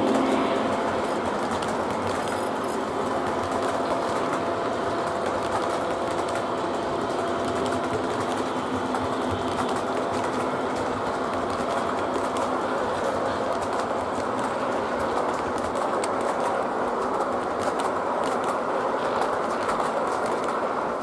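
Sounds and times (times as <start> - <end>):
model train wheels rumbling on rail: 0.0 - 21.0.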